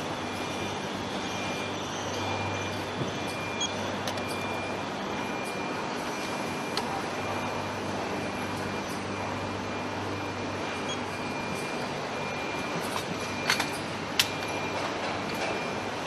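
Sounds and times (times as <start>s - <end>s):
high machine whine: 0.0s - 16.0s
machinery low hum: 0.0s - 16.0s.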